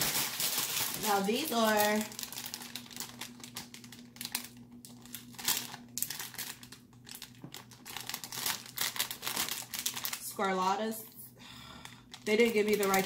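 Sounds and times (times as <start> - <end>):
plastic bag crinkling: 0.0 - 10.6, 11.8 - 13.0.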